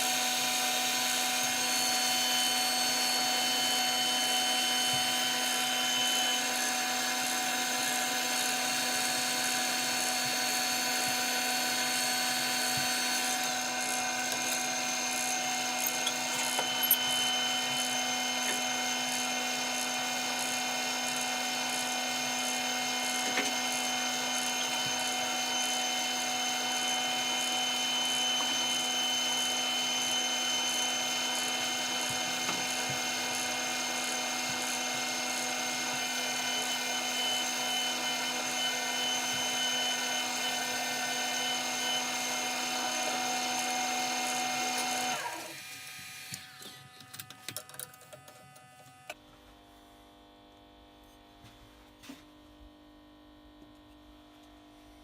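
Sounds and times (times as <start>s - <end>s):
lathe motor whining: 0.0s - 47.4s.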